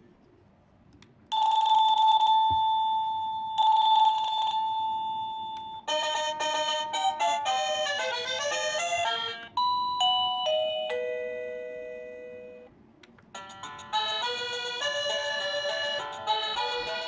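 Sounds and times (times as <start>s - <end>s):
doorbell electronic melodies: 1.3s - 12.7s, 13.4s - 17.0s.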